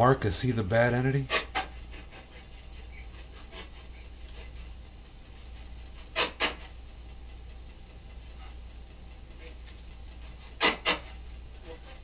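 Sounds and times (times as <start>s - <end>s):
low electrical hum: 0.0s - 12.0s
faint ticks: 1.6s - 12.0s.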